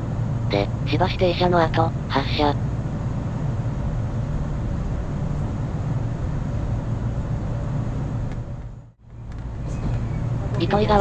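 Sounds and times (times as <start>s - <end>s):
train running low rumble: 0.0s - 11.0s.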